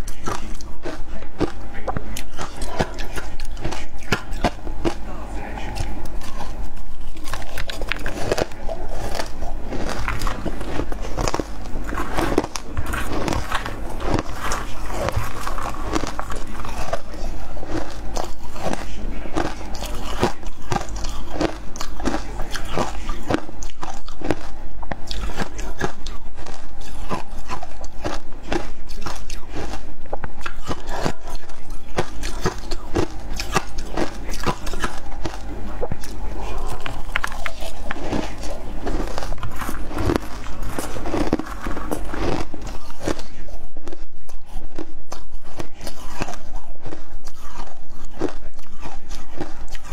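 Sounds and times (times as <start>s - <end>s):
ice being chewed crunching: 0.0s - 49.9s.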